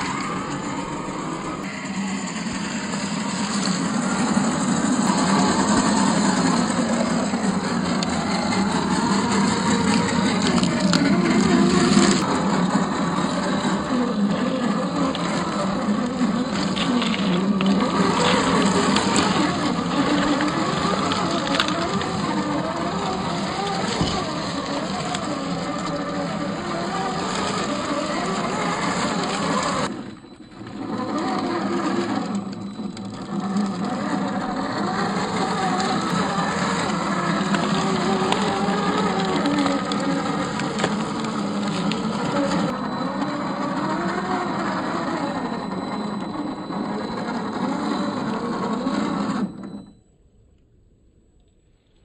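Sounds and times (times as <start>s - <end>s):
electric motor and gears whirring: 0.0s - 50.1s.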